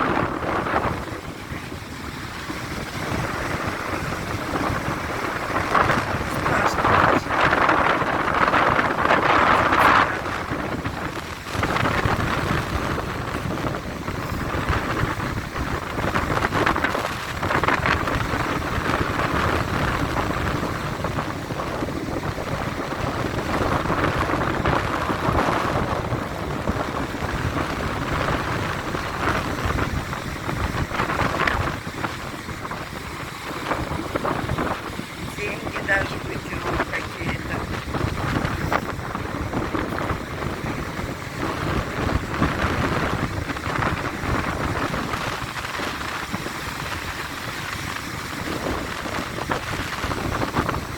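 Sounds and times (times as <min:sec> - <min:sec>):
waves breaking: 0:00.0 - 0:50.9
wind buffeting microphone: 0:00.0 - 0:50.9.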